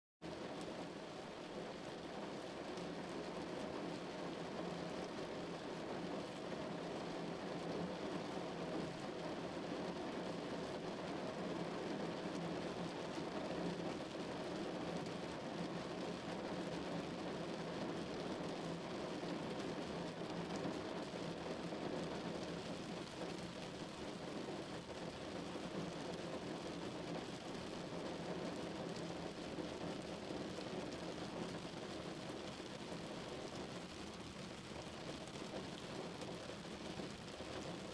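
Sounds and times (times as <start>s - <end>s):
heavy rain drumming on car roof: 0.3s - 37.9s.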